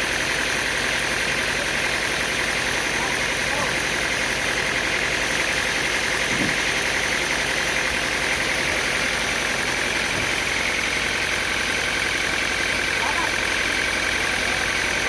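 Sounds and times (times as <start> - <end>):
engine droning with hiss: 0.0 - 15.0.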